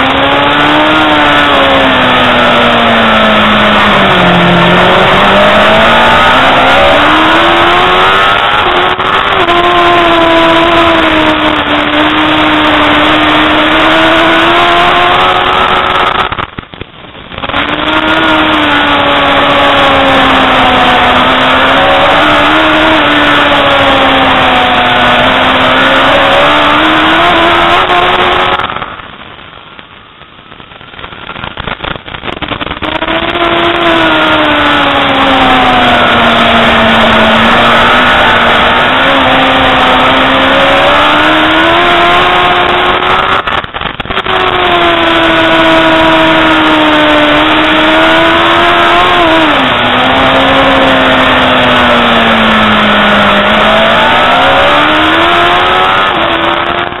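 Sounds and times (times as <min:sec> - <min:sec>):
superbike engine at race speed: 0:00.0 - 0:57.0.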